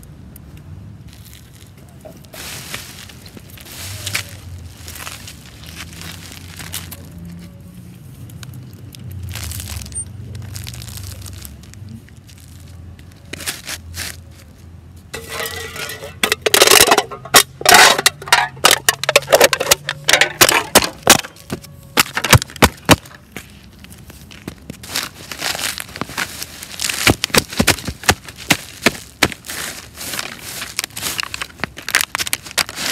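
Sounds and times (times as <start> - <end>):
brittle object crunching underfoot: 1.0 - 32.9.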